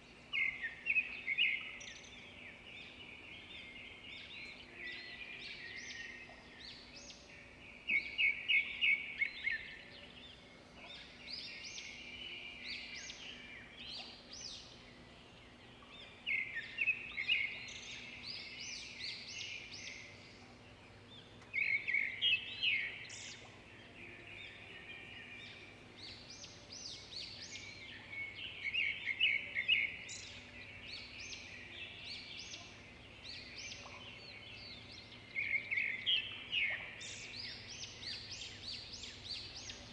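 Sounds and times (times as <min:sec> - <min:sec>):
birds chirping and trilling: 0:00.0 - 0:39.9
low steady background noise: 0:00.0 - 0:39.9.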